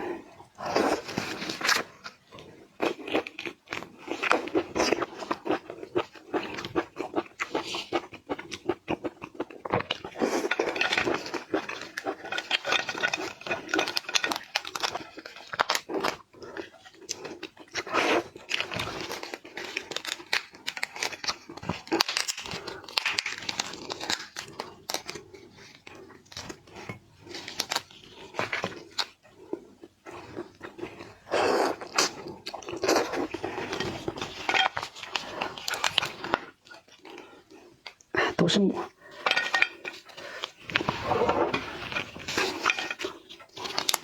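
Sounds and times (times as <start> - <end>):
close crunching and chewing: 0.0 - 38.3, 39.0 - 44.0.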